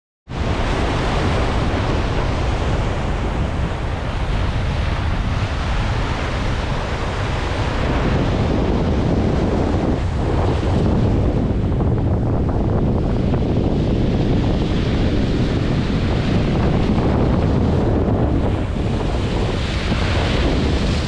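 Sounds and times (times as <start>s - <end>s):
surf breaking over rocks: 0.3s - 21.0s
wind buffeting microphone: 0.3s - 21.0s.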